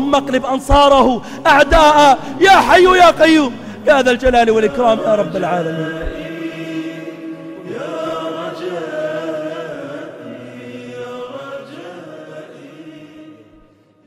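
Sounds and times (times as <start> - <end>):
voices chanting a cappella: 0.0 - 14.0.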